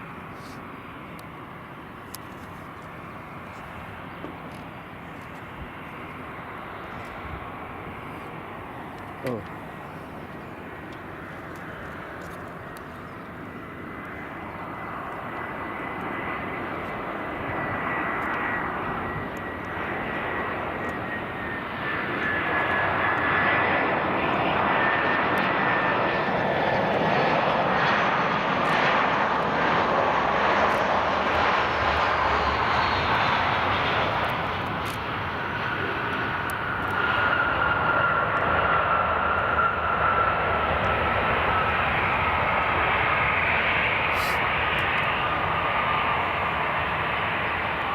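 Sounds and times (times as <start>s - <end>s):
jet airliner engines passing: 0.0s - 47.9s.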